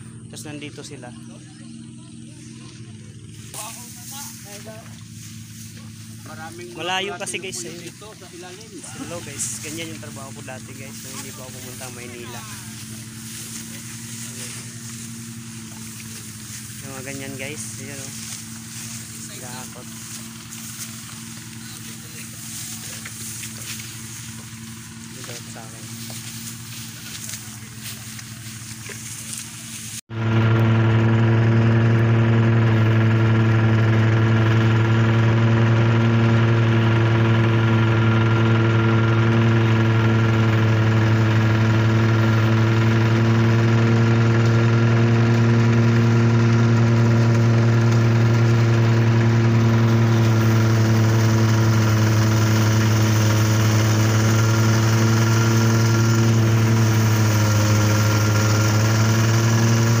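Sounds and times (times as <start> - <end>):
engine droning steadily: 0.0 - 60.0.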